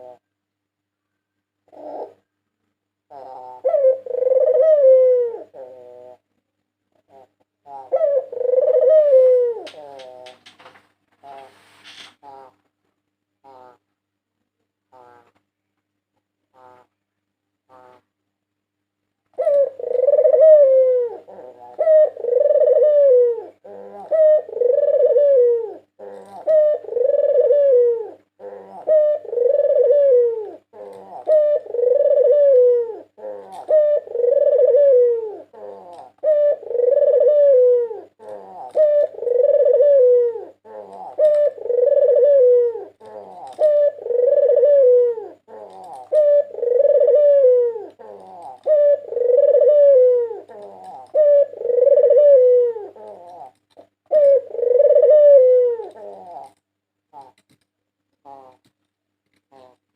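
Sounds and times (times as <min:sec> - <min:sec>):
dove cooing: 0:00.0 - 0:00.3, 0:01.1 - 0:02.4, 0:03.0 - 0:06.3, 0:06.9 - 0:12.6, 0:13.4 - 0:13.8, 0:19.3 - 0:57.6, 0:58.2 - 0:58.8, 0:59.5 - 0:59.8
faint steady hum: 0:00.0 - 0:59.9.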